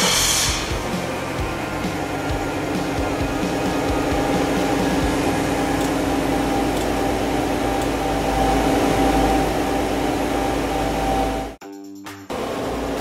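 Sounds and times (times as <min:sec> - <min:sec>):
car engine idling: 0:00.0 - 0:11.6, 0:12.3 - 0:13.0.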